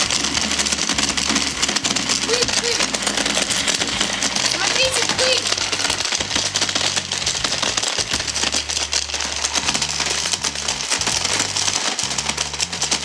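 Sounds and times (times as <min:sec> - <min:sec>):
electric chopper grinding candy: 0:00.0 - 0:13.0.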